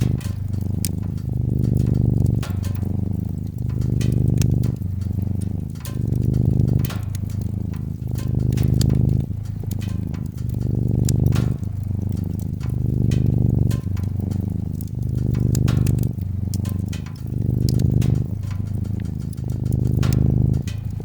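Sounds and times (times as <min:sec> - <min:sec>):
cat purring: 0:00.0 - 0:21.0
wood fire crackling: 0:00.0 - 0:21.0.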